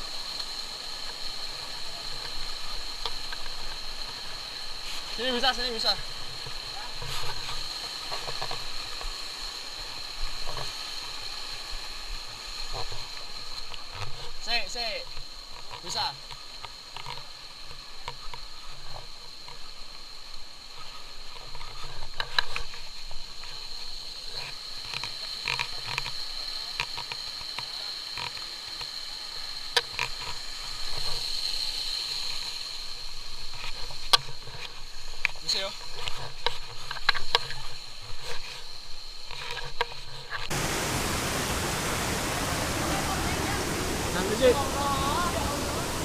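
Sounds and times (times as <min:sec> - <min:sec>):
constant high hiss: 0:00.0 - 0:46.0
insects droning: 0:00.0 - 0:46.0
stream water flowing: 0:00.0 - 0:46.0.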